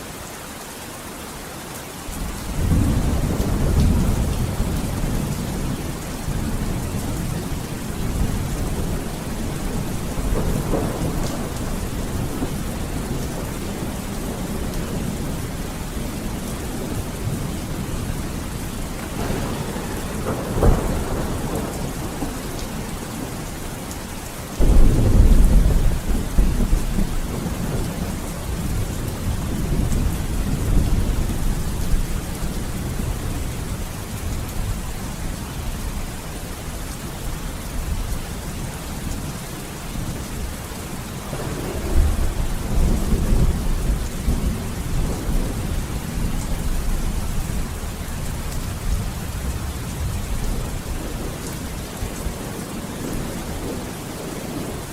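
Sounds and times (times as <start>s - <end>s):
heavy rain: 0.0s - 54.9s
thunder rumbling: 2.2s - 33.4s, 40.0s - 54.9s.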